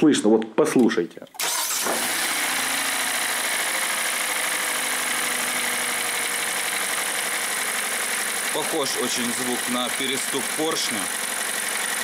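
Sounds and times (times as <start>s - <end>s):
car engine idling with knock: 1.8s - 12.0s.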